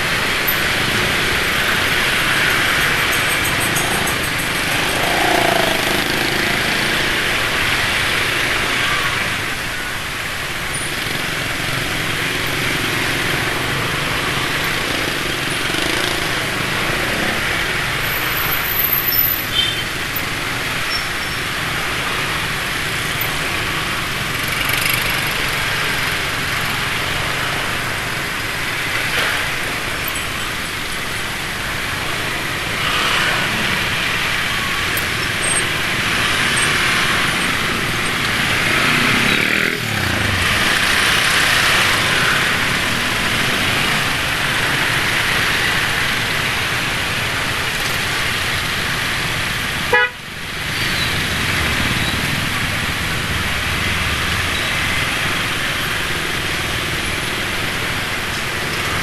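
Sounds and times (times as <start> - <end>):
motorbikes passing: 0.0 - 59.0
scooter engine and road noise: 0.0 - 59.0.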